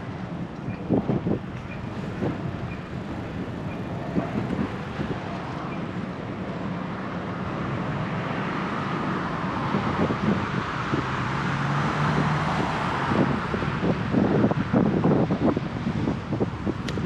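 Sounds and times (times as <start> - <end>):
passing motor vehicle: 0.0 - 17.0
road traffic: 0.0 - 17.0
wind on microphone: 0.0 - 17.0.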